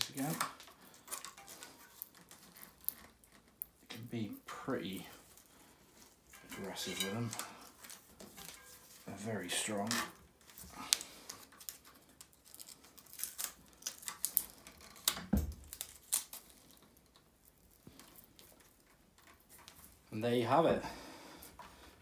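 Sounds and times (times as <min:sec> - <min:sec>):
velcro straps crackling: 0:00.0 - 0:20.1.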